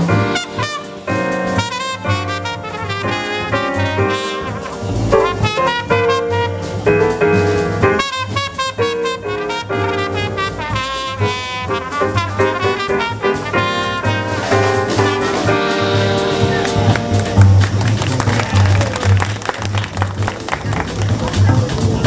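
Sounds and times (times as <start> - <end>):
trumpet melody: 0.0 - 20.6
drum kit: 0.0 - 22.0
piano: 0.0 - 22.0
walking double bass: 0.0 - 22.0.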